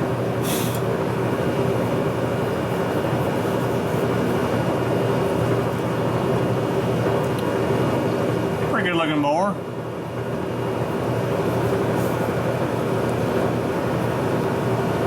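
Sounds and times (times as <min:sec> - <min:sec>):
boring mill humming: 0:00.0 - 0:15.0.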